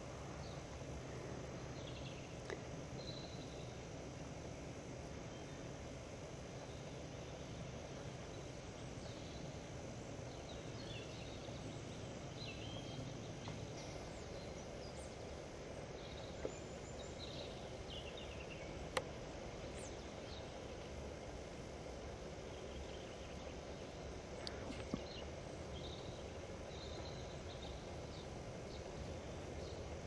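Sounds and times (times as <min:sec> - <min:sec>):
steady background hiss: 0:00.0 - 0:30.0
small birds chirping: 0:00.3 - 0:30.0.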